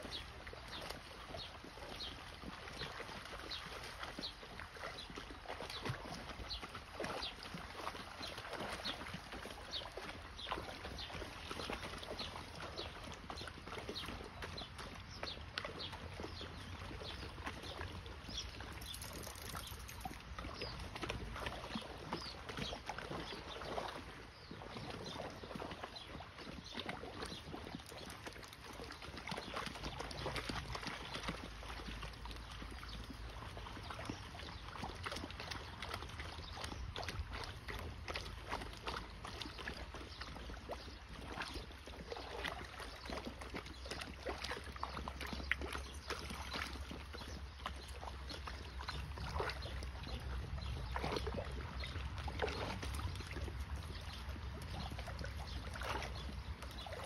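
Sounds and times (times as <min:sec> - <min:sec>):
water splashing: 0:00.0 - 0:57.0.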